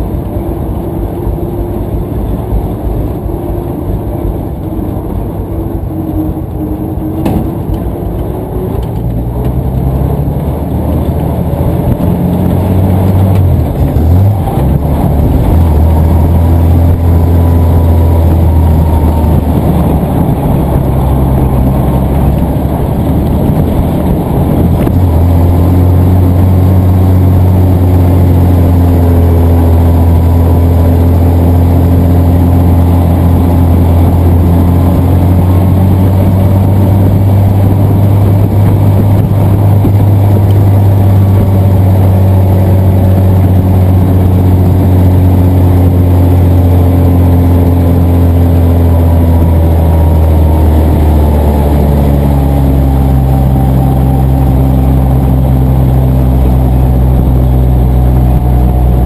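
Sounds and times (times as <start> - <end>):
truck engine running under load: 0.0 - 59.0.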